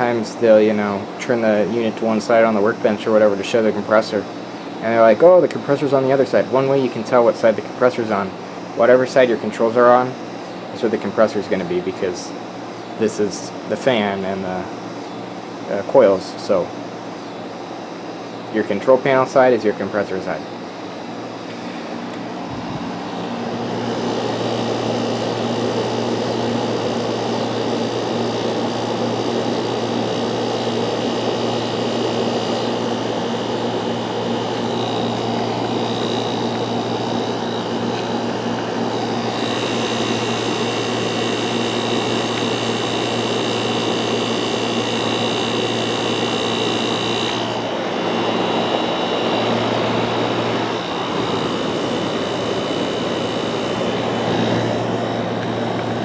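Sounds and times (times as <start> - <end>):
air conditioner fan rushing: 0.0 - 56.0
compressor humming: 0.0 - 56.0
faint high whine: 0.0 - 56.0.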